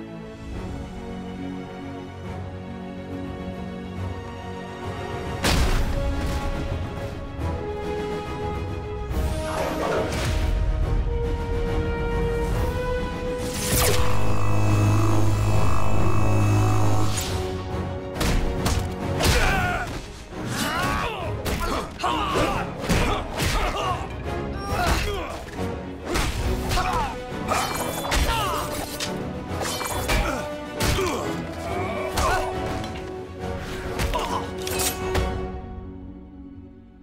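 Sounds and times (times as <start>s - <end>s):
action music: 0.0s - 37.0s.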